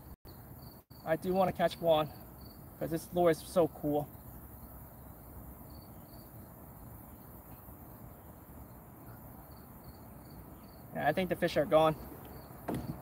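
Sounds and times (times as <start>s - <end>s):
high insect chirps: 0.0s - 13.0s.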